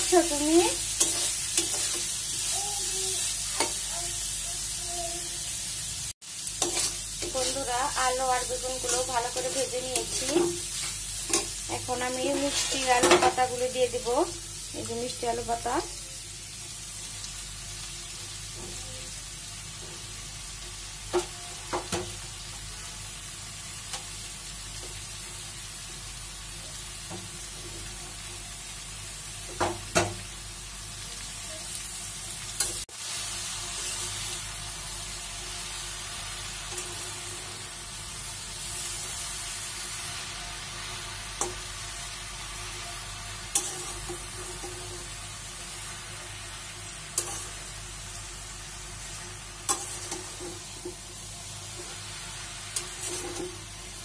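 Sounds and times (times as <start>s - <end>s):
leaves sizzling in oil: 0.0s - 54.0s.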